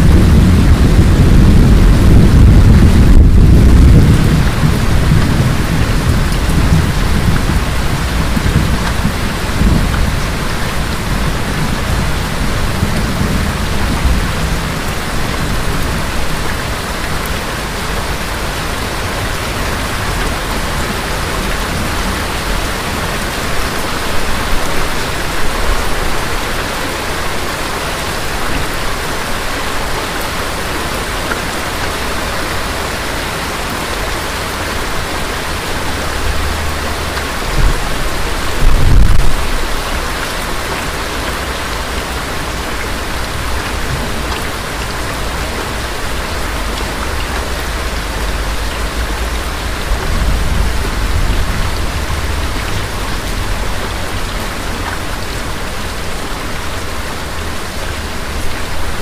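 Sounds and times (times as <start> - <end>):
thunder rumbling: 0.0 - 27.3, 35.4 - 56.1
steady rain: 0.0 - 59.0.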